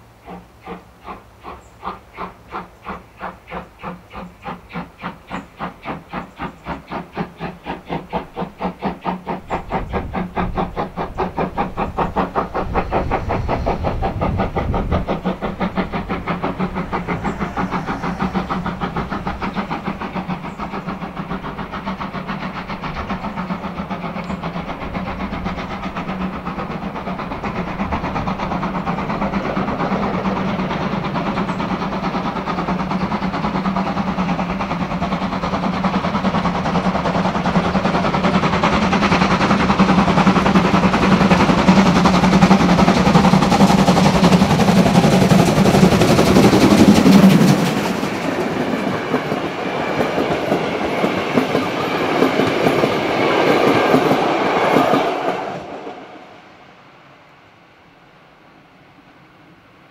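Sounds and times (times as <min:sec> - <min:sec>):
steam locomotive exhaust beats: 0:00.0 - 0:57.1.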